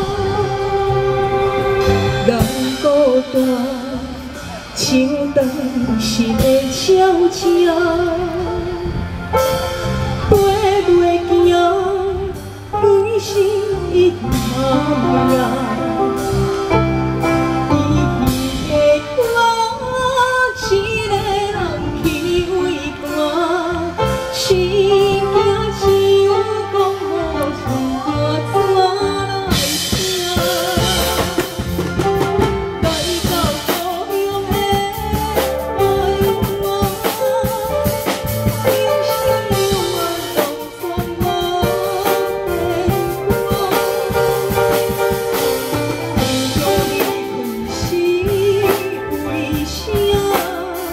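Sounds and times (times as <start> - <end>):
backing band with drum kit: 0.0 - 50.9
woman singing into a microphone: 0.0 - 50.9.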